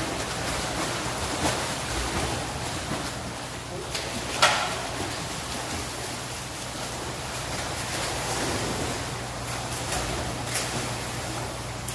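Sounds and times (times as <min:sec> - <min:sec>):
low steady hum: 0:00.0 - 0:11.9
pool water splashing: 0:00.0 - 0:11.9.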